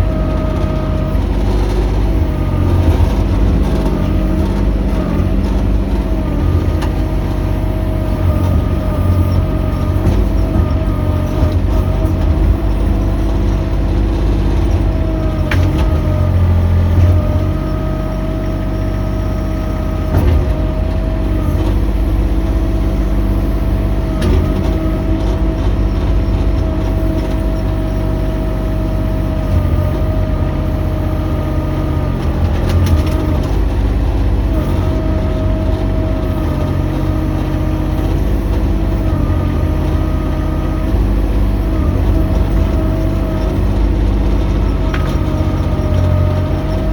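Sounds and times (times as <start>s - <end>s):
excavator engine running: 0.0s - 46.9s.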